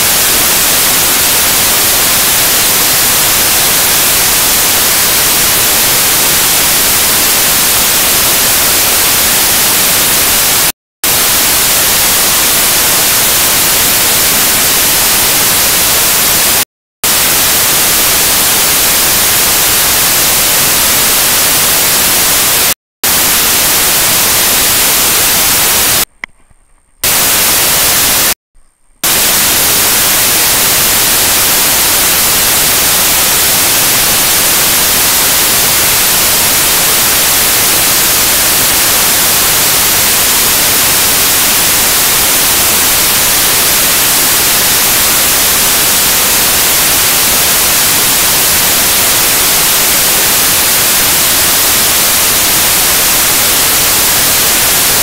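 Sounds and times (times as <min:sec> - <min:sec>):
static hiss: 0:00.0 - 0:26.2, 0:26.8 - 0:55.0.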